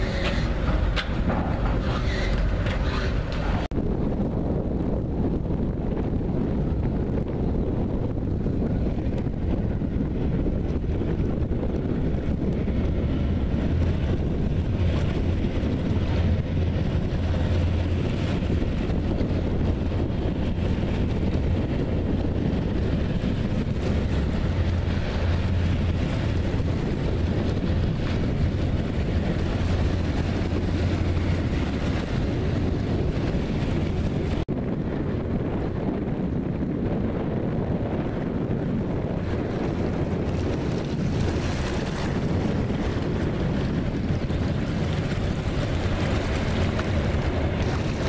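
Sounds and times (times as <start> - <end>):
water washing against bank: 0.0 - 4.1, 4.7 - 48.0
low drone of vehicle engines: 0.0 - 48.0
wind rumble on microphone: 0.0 - 48.0.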